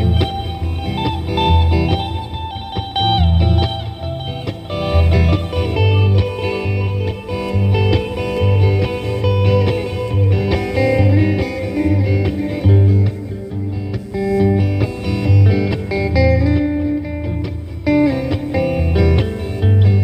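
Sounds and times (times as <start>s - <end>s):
blues-rock guitar notes: 0.0s - 20.0s.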